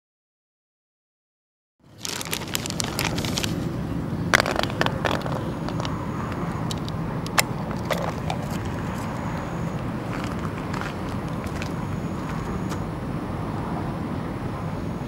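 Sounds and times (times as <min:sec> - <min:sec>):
low outdoor rumble: 0:01.8 - 0:15.0.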